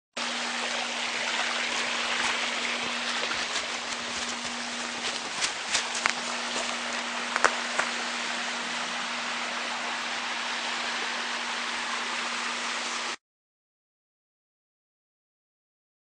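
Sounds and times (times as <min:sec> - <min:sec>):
low steady hum: 0:00.2 - 0:13.2
rain-like hiss: 0:00.2 - 0:13.2.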